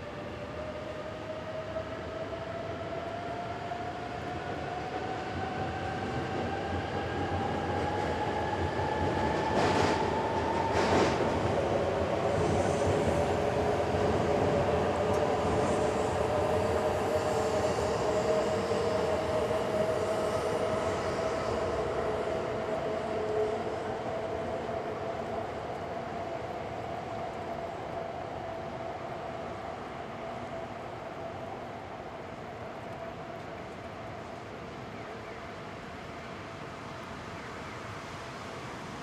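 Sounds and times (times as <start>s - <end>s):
train running by: 0.0s - 39.0s.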